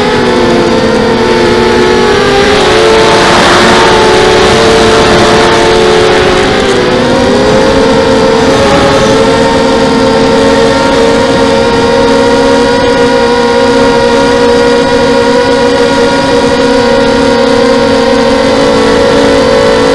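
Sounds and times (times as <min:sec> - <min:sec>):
quadcopter motors whining: 0:00.0 - 0:19.9.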